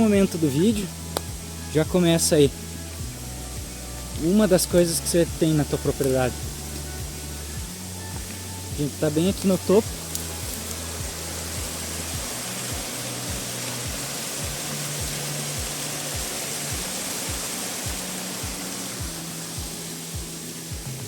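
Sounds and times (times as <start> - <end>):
background music with bass and beat: 0.0 - 21.0
small waterfall rushing: 0.0 - 21.0.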